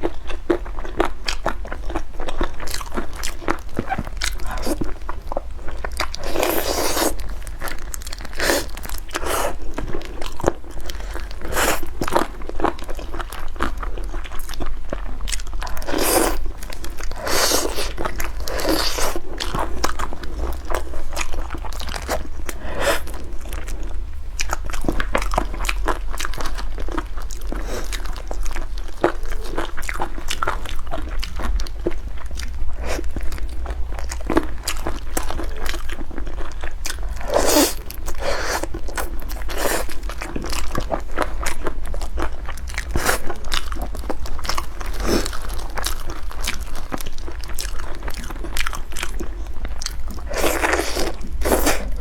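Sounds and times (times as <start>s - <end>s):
crunchy chewing: 0.0s - 52.0s
steady low hum: 0.0s - 52.0s.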